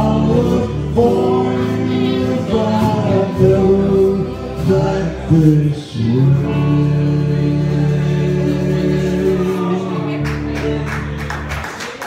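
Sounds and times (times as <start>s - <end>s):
men singing in harmony: 0.0s - 10.2s
guitars strummed: 0.0s - 11.8s.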